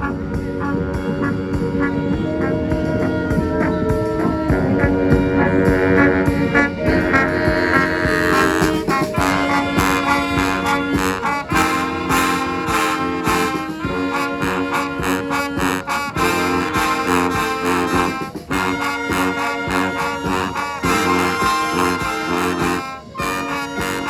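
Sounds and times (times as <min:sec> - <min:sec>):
brass band playing: 0:00.0 - 0:24.0
sharp percussion hits: 0:00.0 - 0:24.0.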